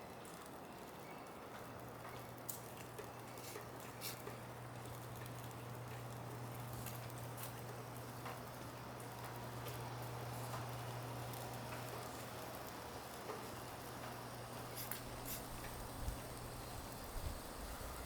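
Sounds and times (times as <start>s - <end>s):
steady low hum: 3.1s - 18.0s.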